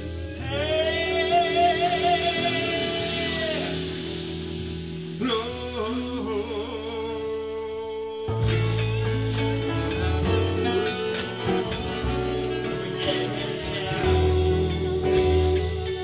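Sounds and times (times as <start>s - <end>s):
bass notes: 0.0s - 16.0s
live soul band music: 0.0s - 16.0s.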